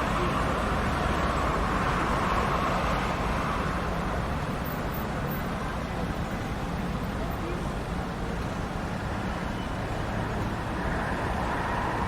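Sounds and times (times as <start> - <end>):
rumble of passing cars: 0.0 - 12.0.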